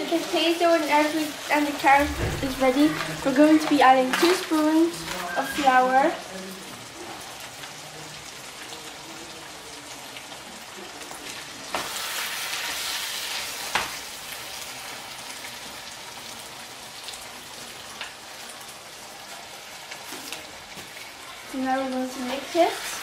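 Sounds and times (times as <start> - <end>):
filling sizzling in a frying pan: 0.0 - 23.0.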